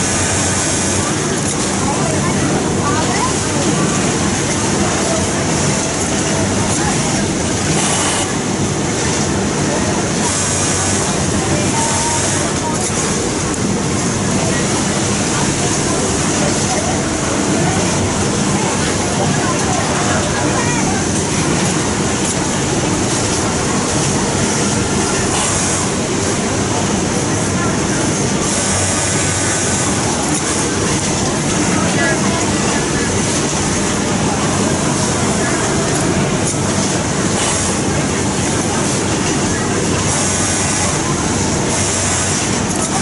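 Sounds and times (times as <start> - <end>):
industrial sewing machines: 0.0 - 43.0.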